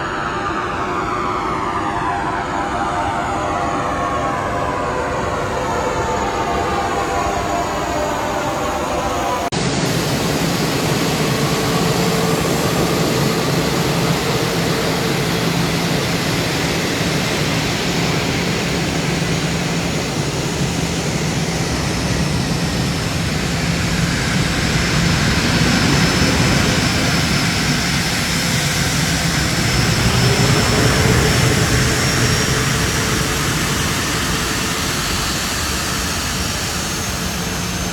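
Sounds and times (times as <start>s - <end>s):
jet engine roar with whine: 0.0s - 37.9s.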